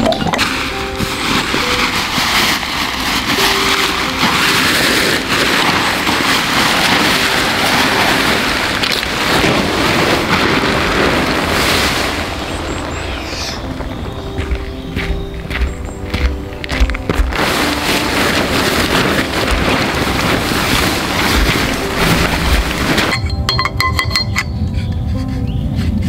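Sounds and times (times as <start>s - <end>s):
fabric rustling and flapping: 0.0s - 24.0s.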